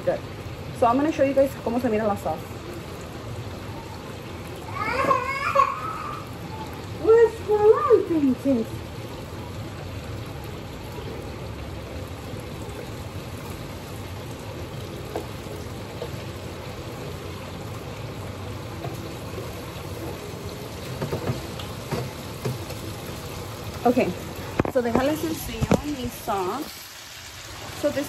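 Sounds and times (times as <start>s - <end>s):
chicken sizzling in a pan: 0.0s - 28.0s.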